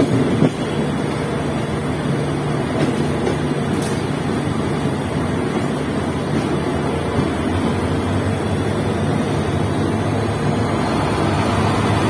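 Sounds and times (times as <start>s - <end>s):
low locomotive engine drone: 0.0s - 12.0s
train wheels rumbling on rail: 0.0s - 12.0s.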